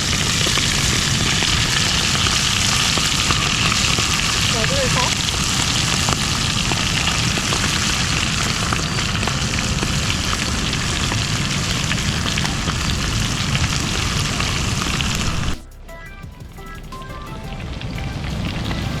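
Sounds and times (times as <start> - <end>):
meat deep-frying in hot oil: 0.0 - 15.6.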